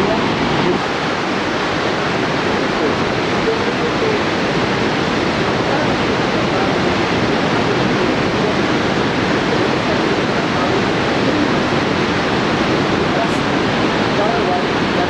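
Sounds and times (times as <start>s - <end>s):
water rushing down spillway: 0.0s - 15.0s.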